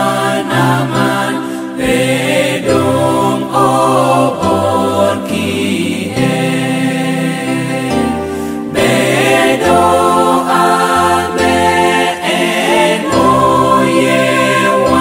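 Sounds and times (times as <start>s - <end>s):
mixed choir singing a hymn: 0.0s - 15.0s.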